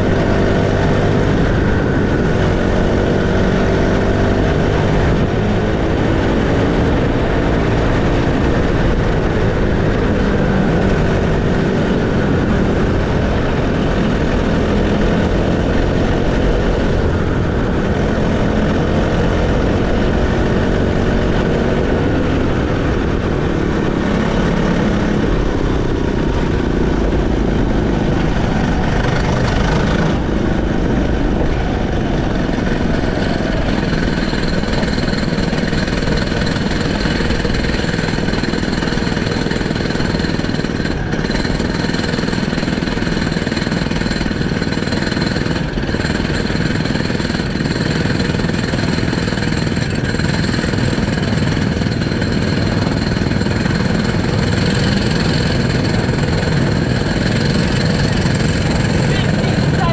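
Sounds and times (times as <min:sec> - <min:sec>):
kart engine running: 0:00.0 - 0:59.9.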